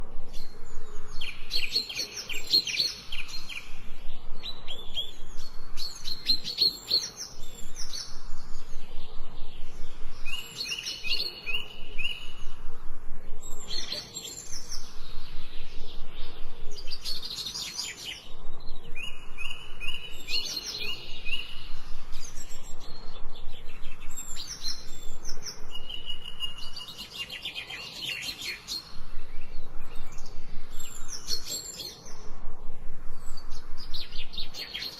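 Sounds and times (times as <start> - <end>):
songbird singing high chirps: 0.0 - 34.9.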